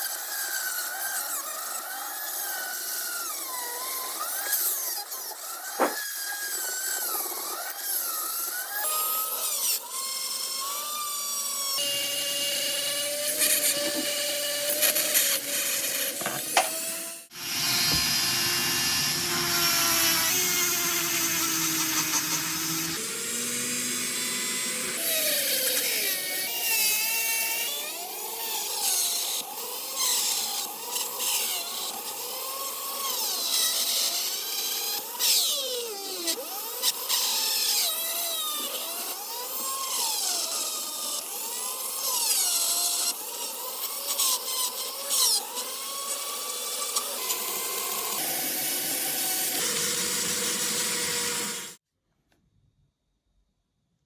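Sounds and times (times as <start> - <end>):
power tool working metal: 0.0 - 51.8.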